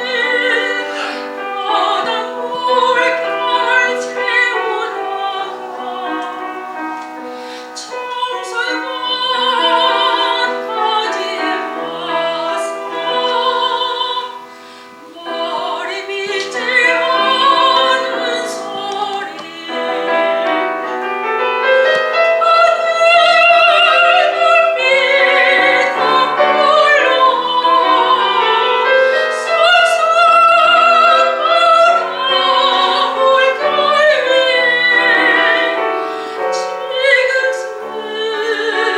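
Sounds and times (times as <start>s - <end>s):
piano accompaniment: 0.0s - 38.9s
soprano singing with vibrato: 0.0s - 38.9s.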